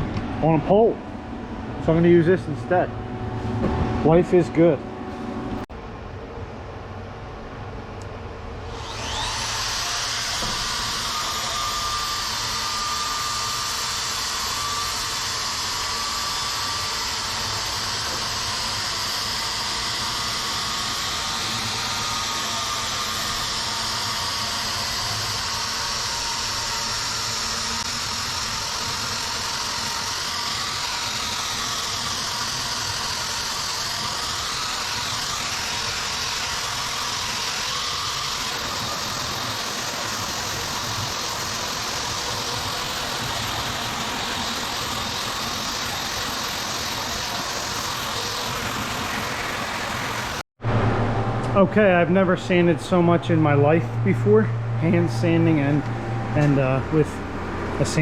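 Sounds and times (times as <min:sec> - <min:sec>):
drywall sander whine: 0:08.6 - 0:58.0.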